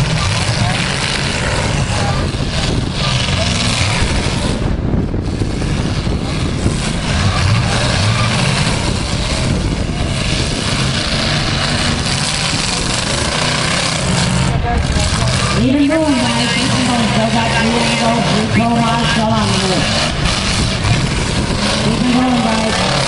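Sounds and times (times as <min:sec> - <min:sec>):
unmuffled car engines revving: 0:00.0 - 0:23.0.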